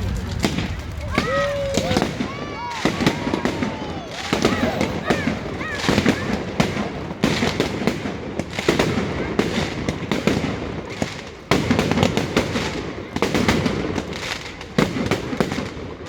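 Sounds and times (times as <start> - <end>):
fireworks banging and crackling: 0.0 - 16.0.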